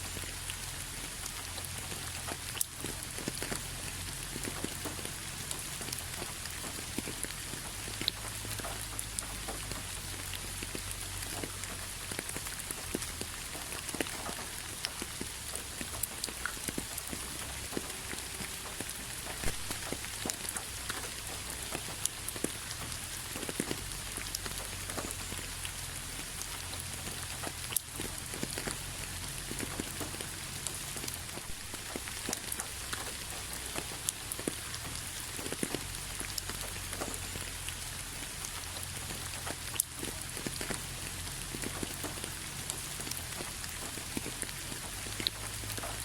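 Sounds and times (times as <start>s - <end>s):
raindrops ticking: 0.0s - 46.0s
steady rain hiss: 0.0s - 46.0s.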